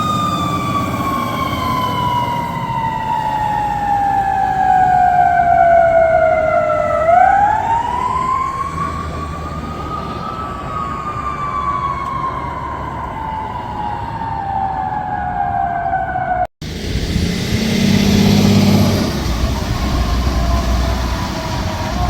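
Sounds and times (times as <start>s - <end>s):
fire truck siren wailing: 0.0s - 22.0s
truck rumbling on road: 0.0s - 22.0s.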